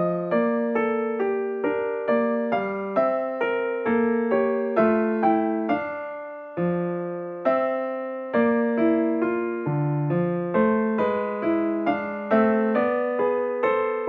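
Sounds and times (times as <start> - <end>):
piano playing chords: 0.0 - 14.0.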